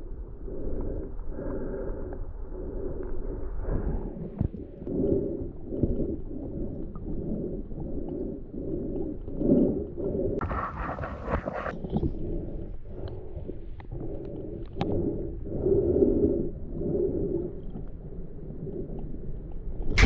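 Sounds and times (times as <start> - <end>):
muffled underwater river flow: 0.0 - 20.0.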